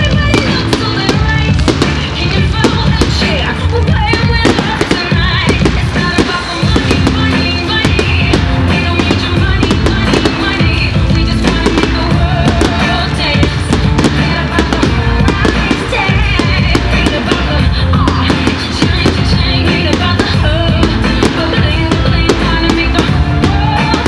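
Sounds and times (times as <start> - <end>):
fireworks bangs and crackles: 0.0 - 24.0
loud music: 0.0 - 24.0.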